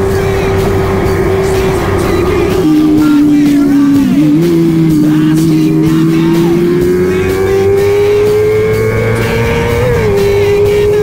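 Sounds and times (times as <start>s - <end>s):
motorcycle engine revving high: 0.0s - 11.0s.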